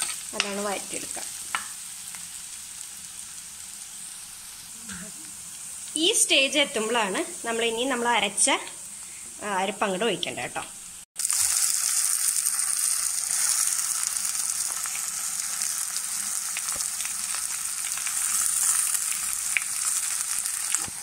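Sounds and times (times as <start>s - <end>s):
paste sizzling in hot oil: 0.0s - 10.0s, 10.9s - 21.0s.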